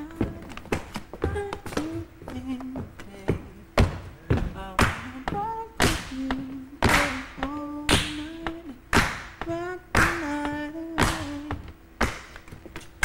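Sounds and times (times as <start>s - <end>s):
man singing wordless notes: 1.2s - 11.8s.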